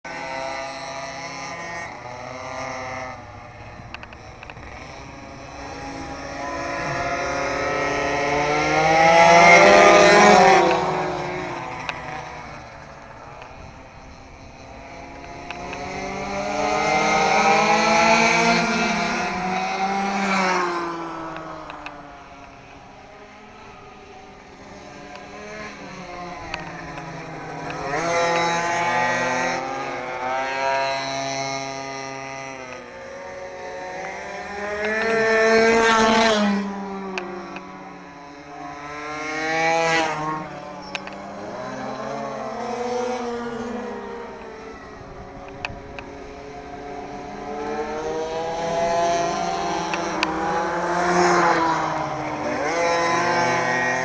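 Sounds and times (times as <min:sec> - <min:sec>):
two-stroke pocket bikes racing: 0:00.1 - 0:54.0.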